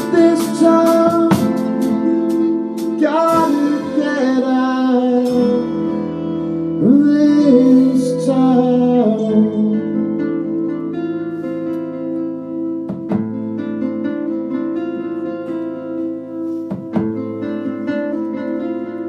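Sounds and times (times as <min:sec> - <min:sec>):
guitar: 0:00.0 - 0:19.0.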